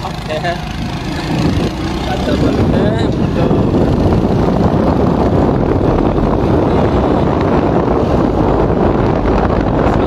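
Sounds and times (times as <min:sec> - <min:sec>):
motorcycle engine rumble: 0:00.0 - 0:10.0
wind rushing over microphone: 0:00.0 - 0:10.0.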